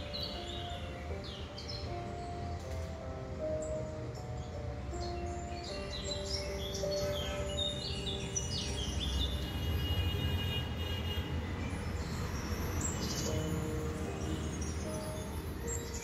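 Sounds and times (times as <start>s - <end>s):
birds chirping: 0.0s - 16.0s
soft background music: 0.0s - 16.0s.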